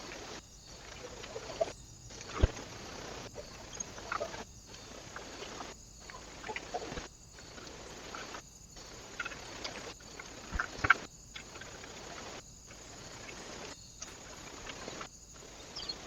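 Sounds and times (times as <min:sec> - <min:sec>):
microphone hiss: 0:00.0 - 0:16.0
chirp-like blips: 0:00.7 - 0:12.4, 0:13.0 - 0:16.0.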